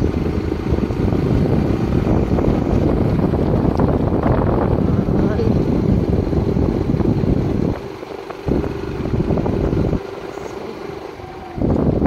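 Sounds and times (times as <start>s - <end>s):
motorcycle engine: 0.0s - 12.0s
wind rush on microphone: 0.0s - 12.0s.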